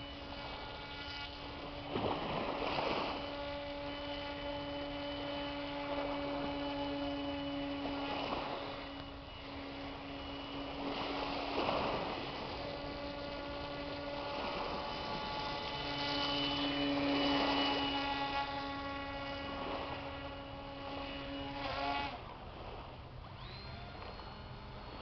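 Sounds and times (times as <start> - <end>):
airboat motor and propeller hum: 0.0 - 25.0.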